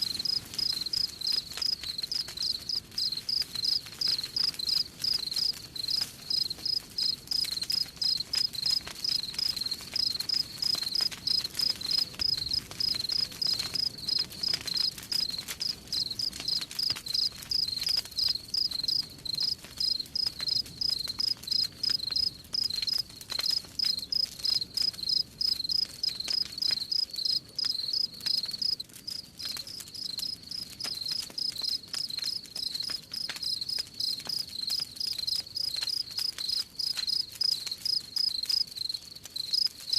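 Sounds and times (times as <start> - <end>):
campfire crackling and popping: 0.0 - 39.9
crickets chirping: 0.2 - 14.2, 14.8 - 39.9.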